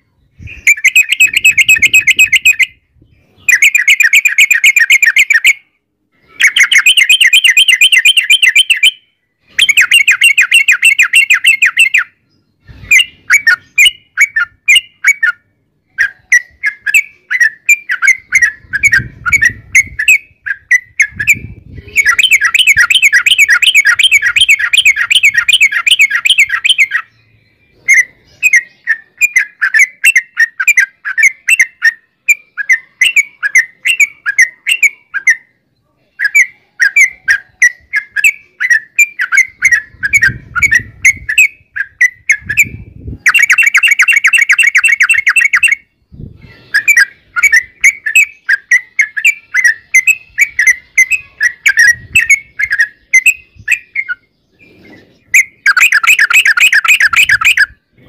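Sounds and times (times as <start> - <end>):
bird singing trills and chattering: 0.0 - 58.0.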